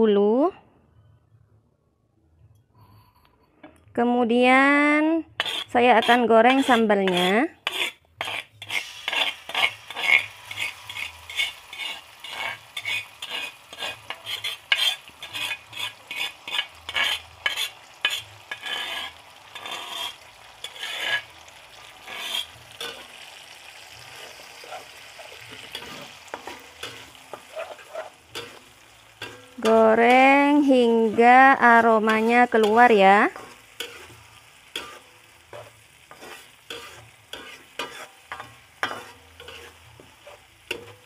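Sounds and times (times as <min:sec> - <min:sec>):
metal spoon scraping clay bowl: 0:05.3 - 0:23.2, 0:24.1 - 0:41.0
paste sizzling in oil: 0:05.4 - 0:41.0
stirring in wok: 0:05.4 - 0:41.0.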